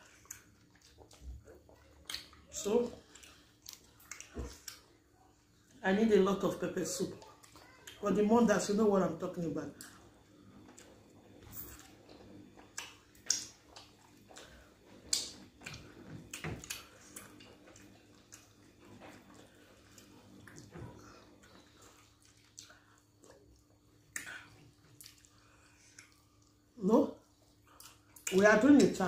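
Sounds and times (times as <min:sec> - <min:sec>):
wet chewing and lip smacks: 0:00.0 - 0:05.7, 0:10.6 - 0:28.9.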